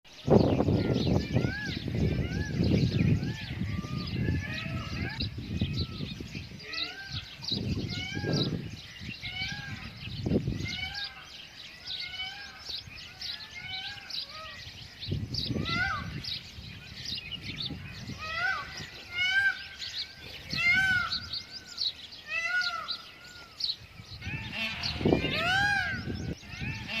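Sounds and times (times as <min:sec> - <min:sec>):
birds chirping in chorus: 0:00.1 - 0:27.0.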